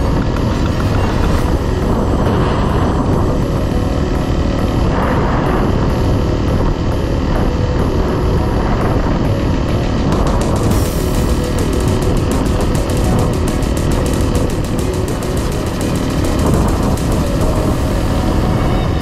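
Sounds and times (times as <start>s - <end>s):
loud continuous rush: 0.0s - 19.0s
motorcycle engine drone: 0.0s - 19.0s.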